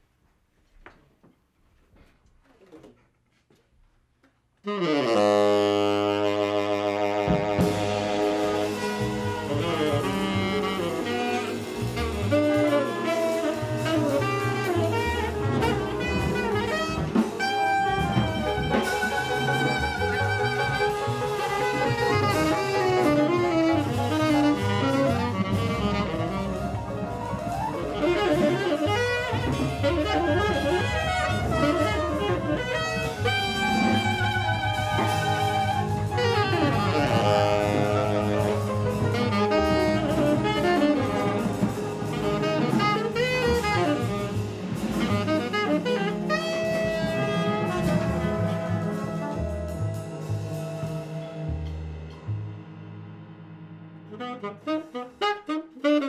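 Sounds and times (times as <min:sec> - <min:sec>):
tenor saxophone lead: 0:04.6 - 0:51.8, 0:54.1 - 0:56.0
piano: 0:04.6 - 0:56.0
drum kit: 0:04.7 - 0:56.0
upright double bass: 0:05.1 - 0:53.2.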